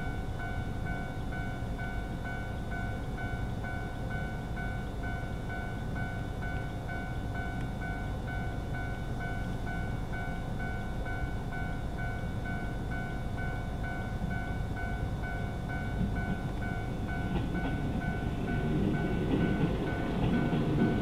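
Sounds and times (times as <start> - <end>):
diesel railcar rumble: 0.0 - 21.0
level crossing warning bell: 0.0 - 21.0.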